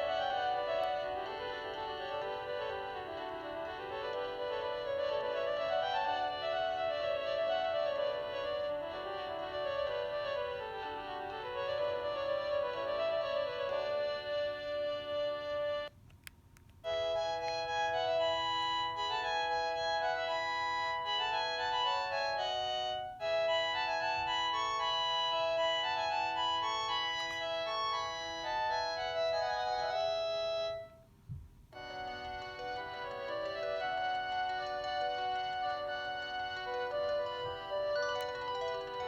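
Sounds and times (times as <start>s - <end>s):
phone ringtone melodies: 0.0s - 15.9s, 16.9s - 31.0s, 31.8s - 39.0s.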